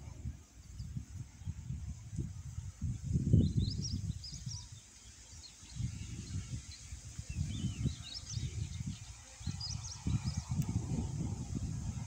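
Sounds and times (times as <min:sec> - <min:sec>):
small birds chirping: 0:00.0 - 0:12.0
wind gusting on microphone: 0:00.0 - 0:12.0.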